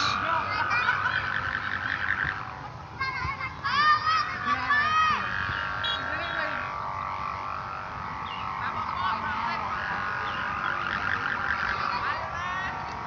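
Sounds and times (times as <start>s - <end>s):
kite hummers droning: 0.0s - 13.0s.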